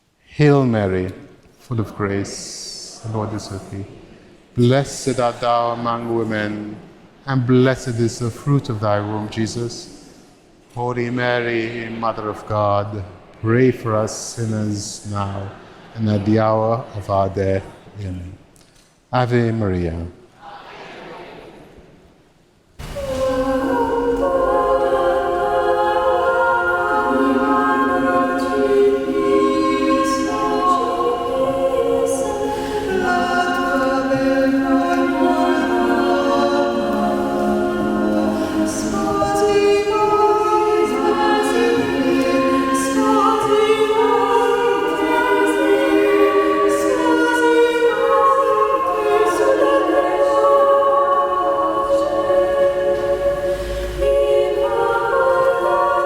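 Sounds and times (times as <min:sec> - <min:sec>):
choir singing a hymn: 0:00.4 - 0:18.4, 0:19.4 - 0:22.1, 0:22.8 - 0:56.0.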